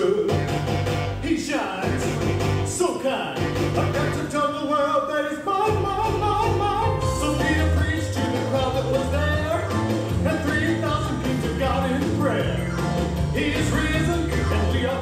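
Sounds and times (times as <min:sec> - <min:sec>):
song with band accompaniment: 0:00.0 - 0:15.0.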